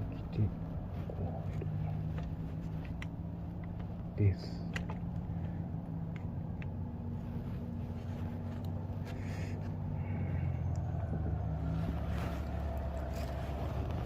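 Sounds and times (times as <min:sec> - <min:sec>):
low engine-like hum: 0:00.0 - 0:14.0.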